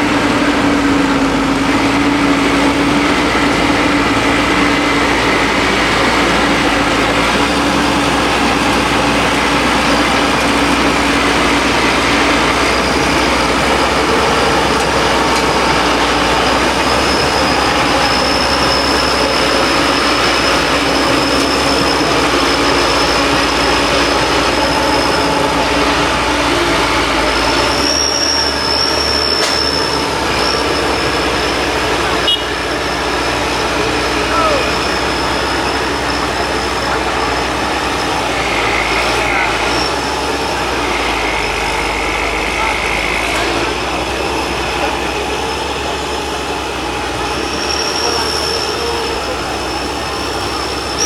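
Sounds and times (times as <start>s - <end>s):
heavy diesel engines running: 0.0s - 51.0s
high steady whine: 0.0s - 51.0s
high-pitched squeal: 0.0s - 51.0s.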